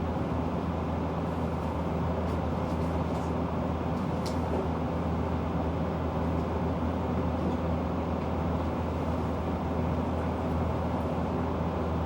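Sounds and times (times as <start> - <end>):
air conditioner fan running: 0.0 - 12.0.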